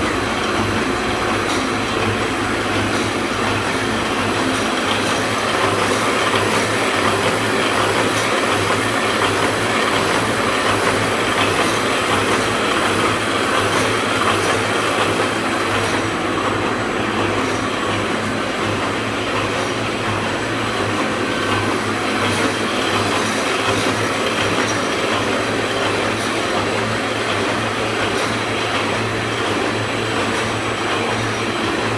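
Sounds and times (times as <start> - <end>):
machine clattering with low hum: 0.0 - 31.9.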